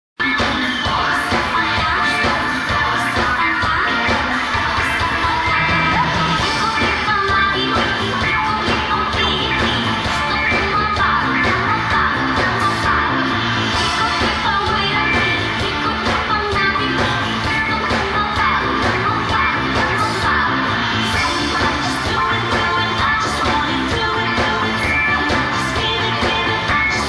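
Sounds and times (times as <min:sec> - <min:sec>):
live pop-rock band playing: 0:00.2 - 0:27.0
woman singing: 0:00.2 - 0:27.0.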